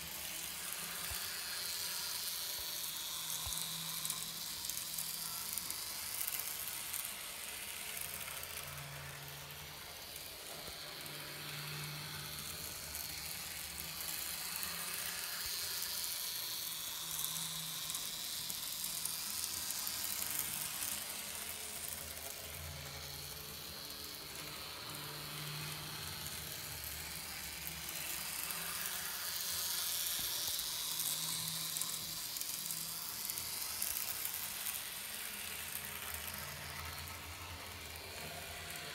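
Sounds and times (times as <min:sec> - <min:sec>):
model train wheels rattling on rails: 0:00.0 - 0:38.9.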